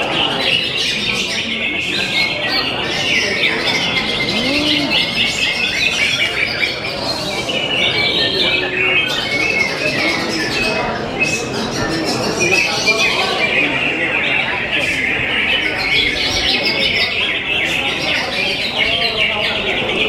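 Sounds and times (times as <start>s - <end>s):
birds chirping and whistling: 0.2s - 20.0s.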